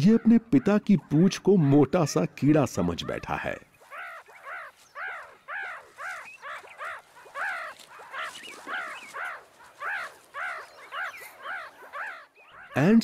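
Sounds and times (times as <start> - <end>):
meerkat pup begging calls: 0.0 - 13.0.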